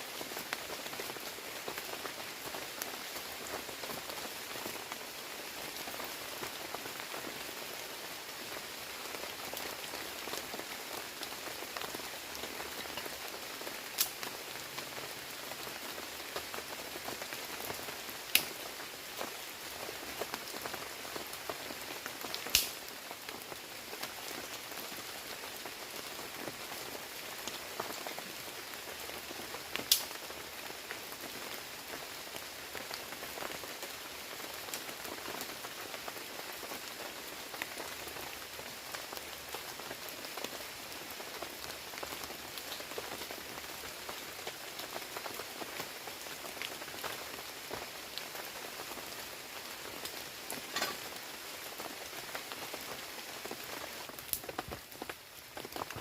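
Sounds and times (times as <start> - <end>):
heavy rain in a forest: 0.0 - 56.0.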